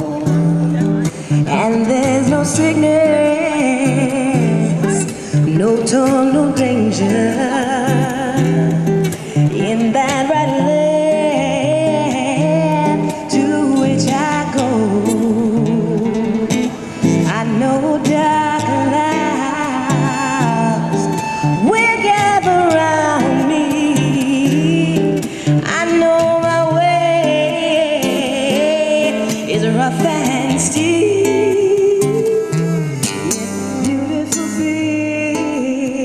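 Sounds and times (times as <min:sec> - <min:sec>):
acoustic guitar: 0:00.0 - 0:36.0
person singing: 0:00.0 - 0:36.0.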